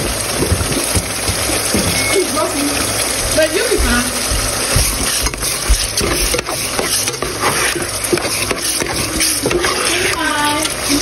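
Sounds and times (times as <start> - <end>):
meat sizzling in a pan: 0.0 - 11.0.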